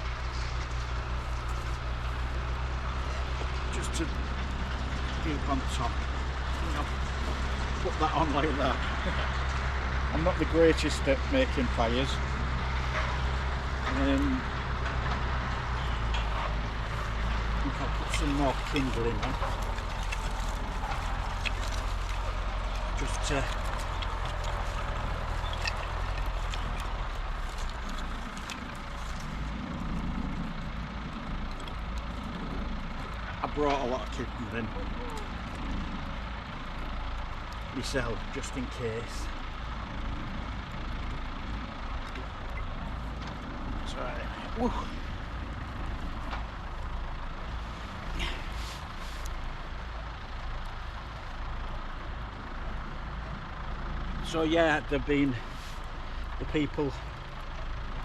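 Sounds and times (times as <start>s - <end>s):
campfire crackling: 0.0s - 58.0s
distant tractor engines droning: 0.0s - 58.0s.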